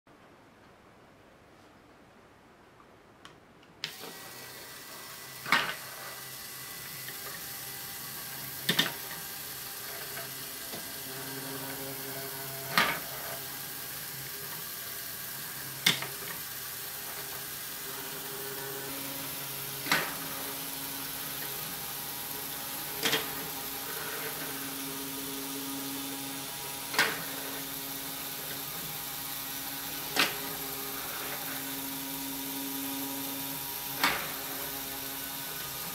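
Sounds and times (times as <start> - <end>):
toy motor humming through gears: 3.9 - 35.9.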